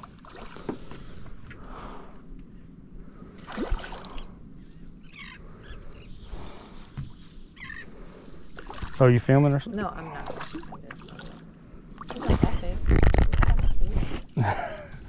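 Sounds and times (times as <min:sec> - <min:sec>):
water lapping against boat hull: 0:00.0 - 0:02.0, 0:03.0 - 0:14.3.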